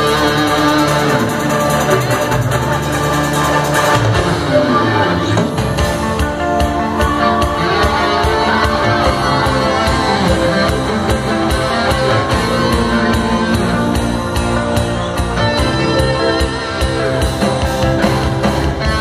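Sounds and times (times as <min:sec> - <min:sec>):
electric guitar: 0:00.0 - 0:19.0.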